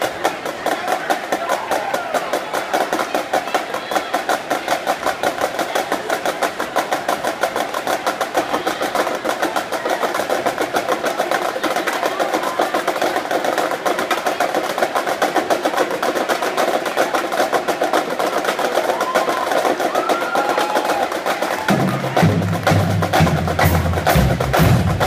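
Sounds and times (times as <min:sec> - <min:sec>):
marching snare drums: 0:00.0 - 0:25.0.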